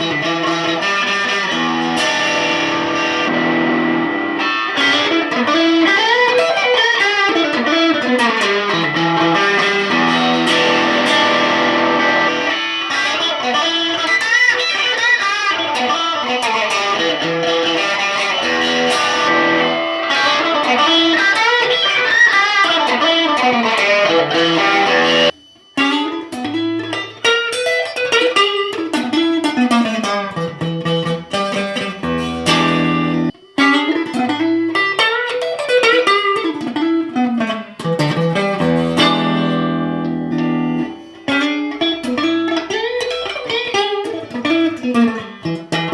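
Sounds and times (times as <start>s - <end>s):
electric guitar melody: 0.0s - 45.9s.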